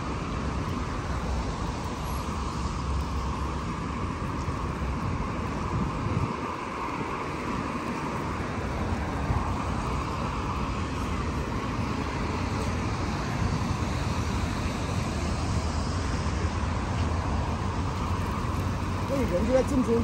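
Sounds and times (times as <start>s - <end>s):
traffic rushing: 0.0s - 20.0s.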